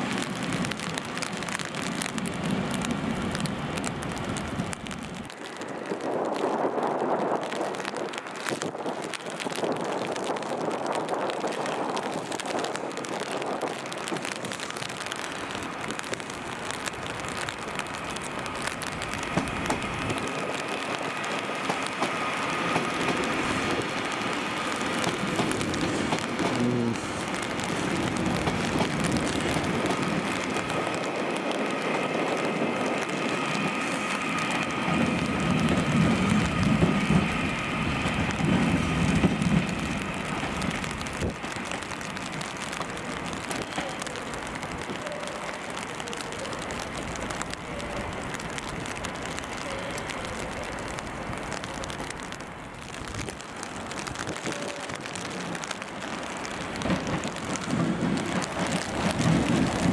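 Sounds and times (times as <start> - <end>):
rain and wind hiss: 0.0 - 59.9.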